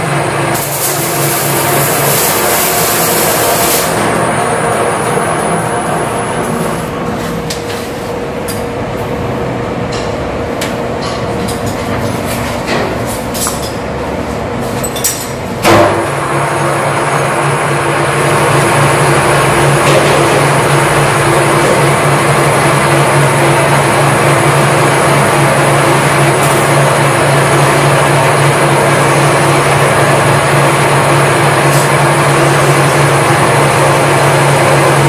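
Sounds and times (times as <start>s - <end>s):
machine hum with low drone: 0.0s - 35.0s
machine shop machinery din: 0.0s - 35.0s.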